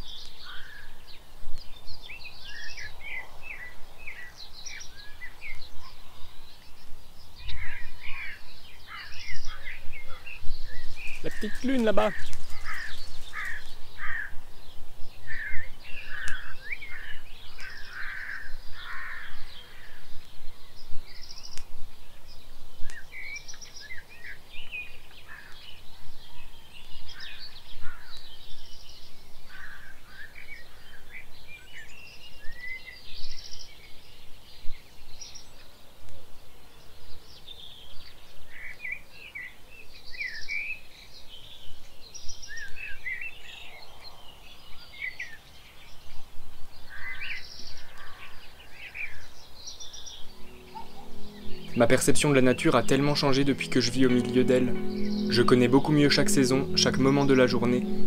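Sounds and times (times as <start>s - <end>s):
birds chirping and trilling: 0.0s - 35.6s, 46.8s - 58.0s.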